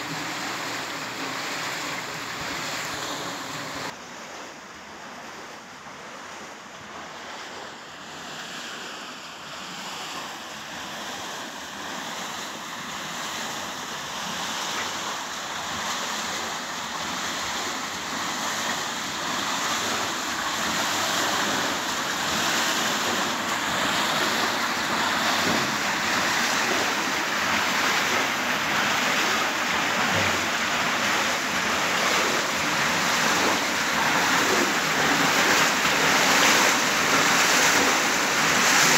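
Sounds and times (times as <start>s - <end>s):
water churning through waterwheel: 0.0s - 38.9s.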